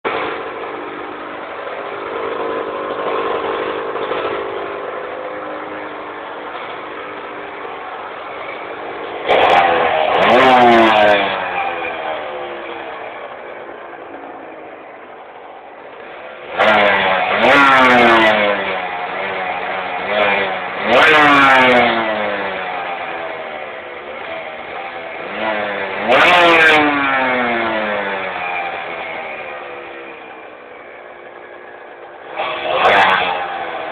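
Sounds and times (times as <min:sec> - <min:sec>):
two-stroke engine idling: 0:00.0 - 0:33.9.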